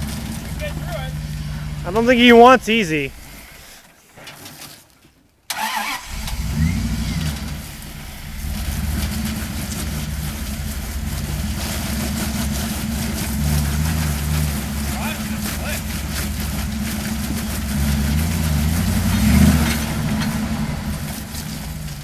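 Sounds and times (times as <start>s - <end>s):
off-road vehicle engine revving: 0.0s - 2.0s, 6.0s - 22.0s.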